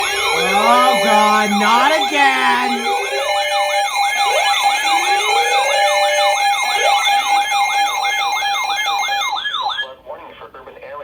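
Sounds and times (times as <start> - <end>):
warbling electronic alert alarm: 0.0 - 9.8.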